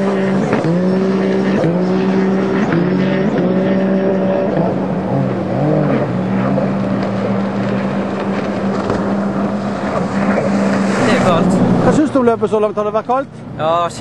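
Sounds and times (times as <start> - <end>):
engine passing by: 0.0 - 13.8
watercraft engines droning: 0.0 - 14.0.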